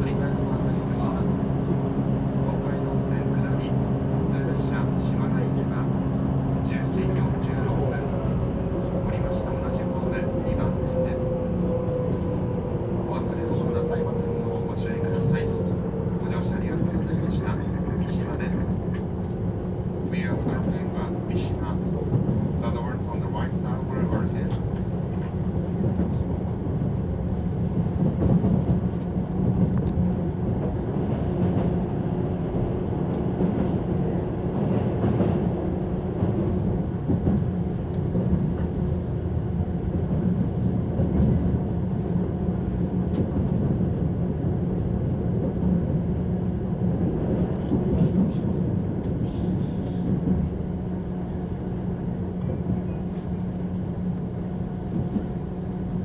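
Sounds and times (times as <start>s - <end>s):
steady train hum: 0.0s - 56.0s
train wheels rumbling on rails: 5.8s - 56.0s.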